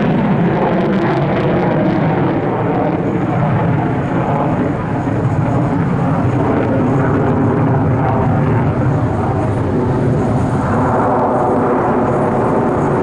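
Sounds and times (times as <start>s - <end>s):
airplane engines running: 0.0s - 13.0s.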